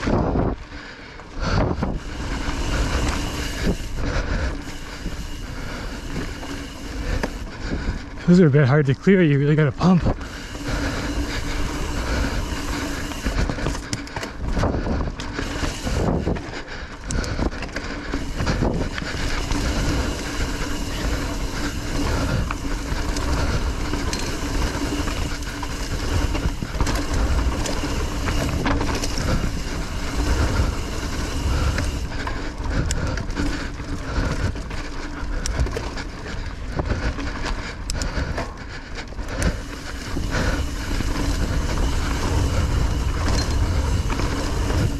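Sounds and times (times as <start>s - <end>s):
bike rattling over bumps: 0.0s - 44.9s
bike tyres rolling on dirt trail: 0.0s - 44.9s.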